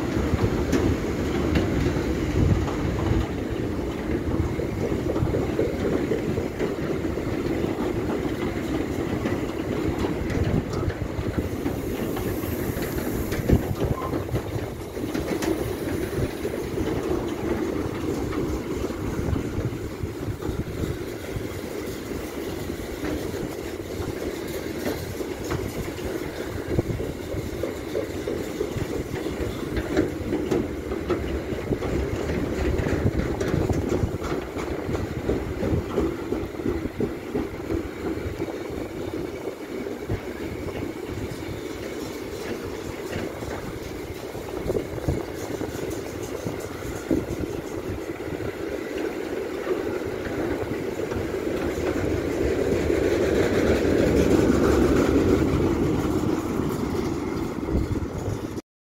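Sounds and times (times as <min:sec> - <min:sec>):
wheels clattering over rail joints: 0:00.0 - 0:58.6
wheels rumbling on rail: 0:00.0 - 0:58.6.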